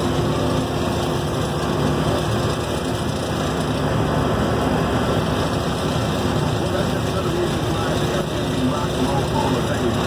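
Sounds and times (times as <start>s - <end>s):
road and wind noise: 0.0s - 10.0s
vehicle engine running: 0.0s - 10.0s.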